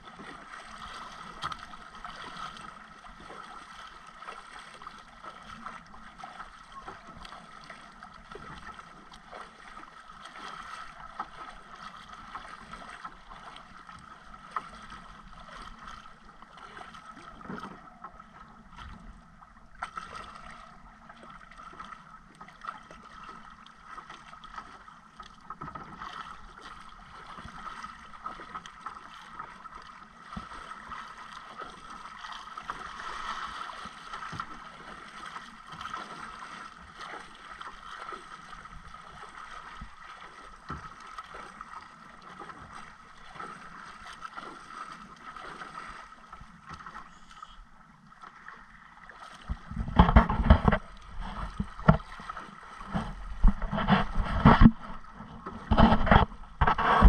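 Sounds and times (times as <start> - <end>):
water splashing against boat hull: 0.0 - 57.0.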